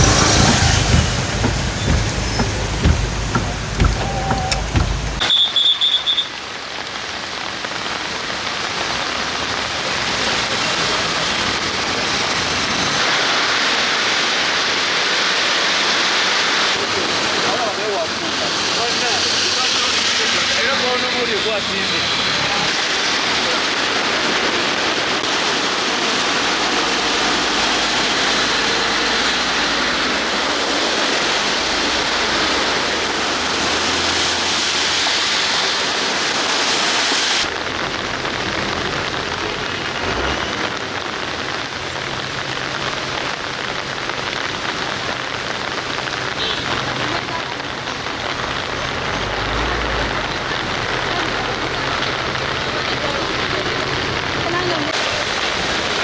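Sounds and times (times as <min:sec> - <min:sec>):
heavy rain: 0:00.0 - 0:56.0
running floodwater: 0:00.0 - 0:56.0.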